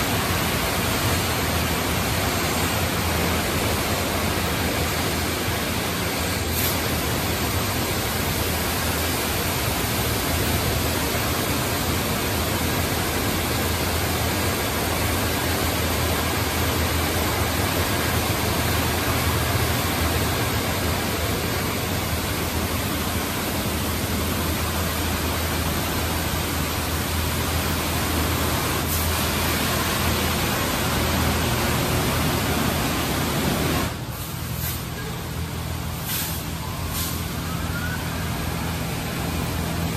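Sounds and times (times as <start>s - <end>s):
high-pressure water spraying: 0.0s - 35.1s, 35.9s - 39.4s.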